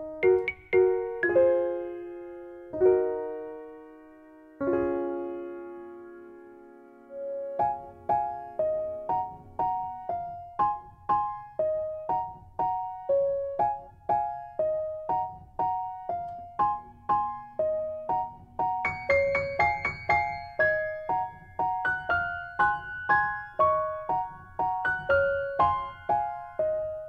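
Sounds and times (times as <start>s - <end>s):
slow piano melody: 0.0s - 27.0s.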